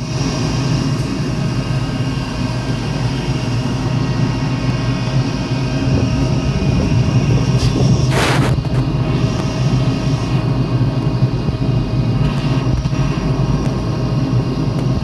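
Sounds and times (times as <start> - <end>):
ship machinery droning: 0.0 - 15.0.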